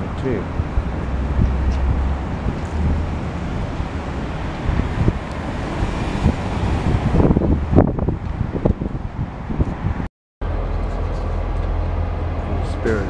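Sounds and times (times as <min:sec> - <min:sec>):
passing cars rumbling: 0:00.0 - 0:13.0
wind buffeting microphone: 0:00.0 - 0:13.0.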